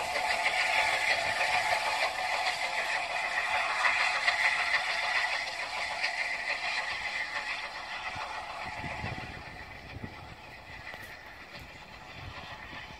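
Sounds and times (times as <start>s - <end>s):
steam train rattle and hiss: 0.0s - 12.9s.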